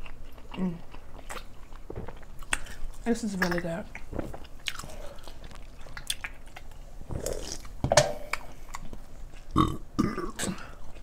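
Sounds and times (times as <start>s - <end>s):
chewing: 0.0s - 9.7s.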